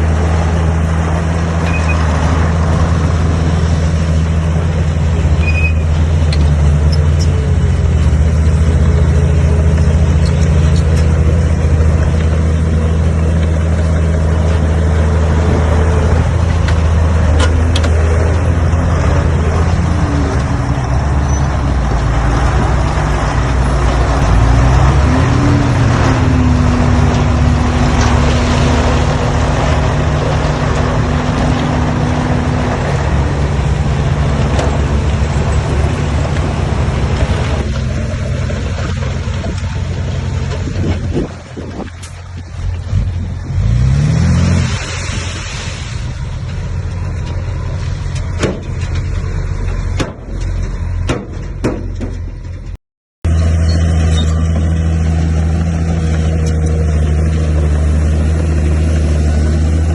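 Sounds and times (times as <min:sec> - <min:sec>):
heavy diesel engines under load: 0:00.0 - 0:59.9.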